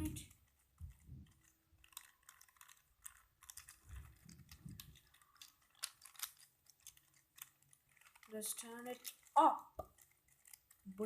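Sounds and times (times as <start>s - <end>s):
puzzle cube layers clicking: 0.0s - 11.0s.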